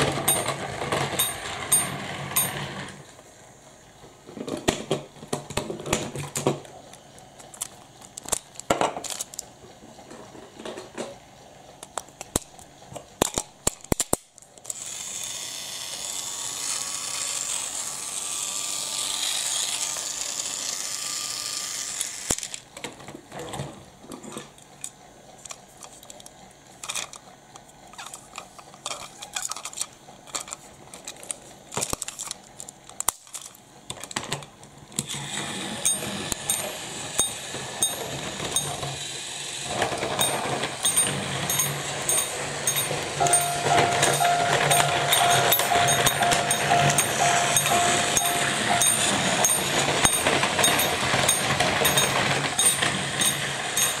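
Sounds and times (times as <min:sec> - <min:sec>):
plastic toy trains clicking: 0:00.0 - 0:03.1, 0:04.3 - 0:54.0
toy train motor whirring: 0:00.0 - 0:03.7, 0:11.4 - 0:22.7, 0:24.2 - 0:34.2, 0:34.9 - 0:54.0.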